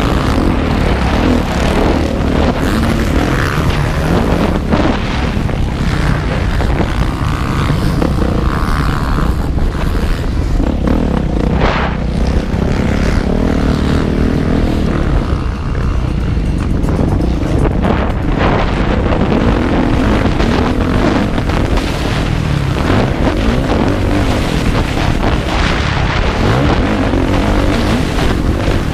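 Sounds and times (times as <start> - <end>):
motorcycle engine revving: 0.0 - 28.9
wind buffeting microphone: 0.0 - 28.9.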